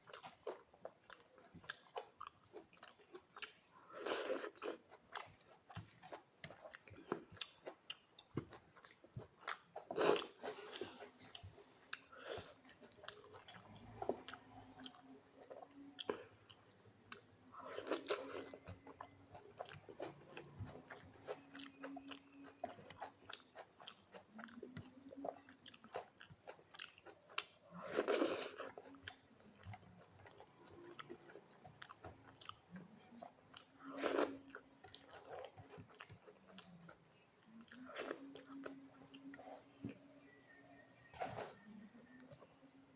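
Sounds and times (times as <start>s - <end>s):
wet chewing and lip smacking: 0.0s - 3.9s, 4.5s - 42.8s.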